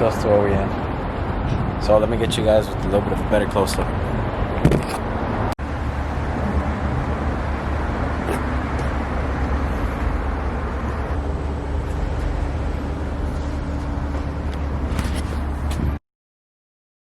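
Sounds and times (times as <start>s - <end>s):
low rumble of outdoor noise: 0.0s - 16.0s.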